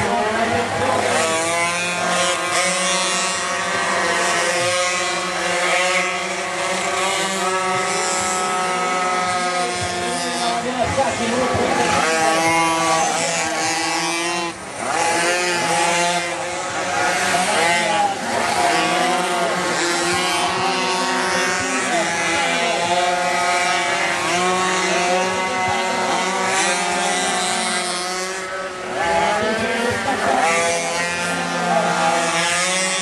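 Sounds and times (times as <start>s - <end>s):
small two-stroke engines racing: 0.0s - 33.0s.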